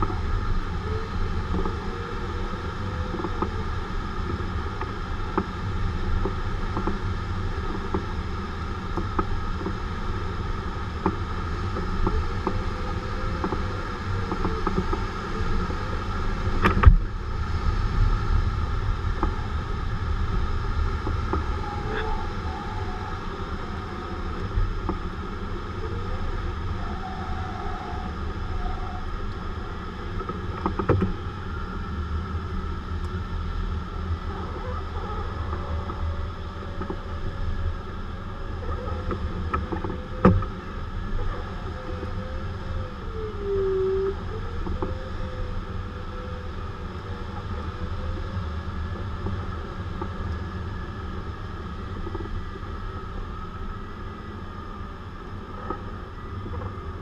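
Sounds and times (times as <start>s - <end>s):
rush of air over canopy: 0.0s - 57.0s.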